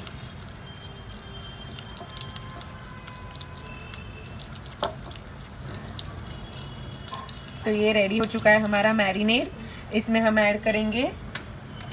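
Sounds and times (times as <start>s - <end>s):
spatula squishing wet marinade: 0.0s - 10.1s.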